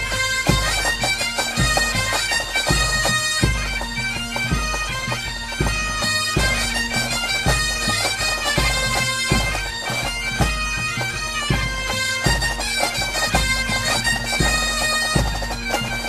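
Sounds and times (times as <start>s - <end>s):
heavy drum beat: 0.0s - 15.9s
bagpipe melody with drone: 0.0s - 16.0s.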